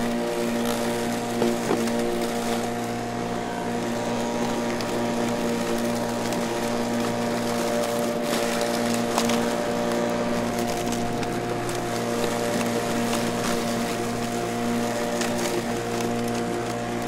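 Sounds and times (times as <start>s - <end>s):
electric lawn mower running: 0.0s - 17.0s.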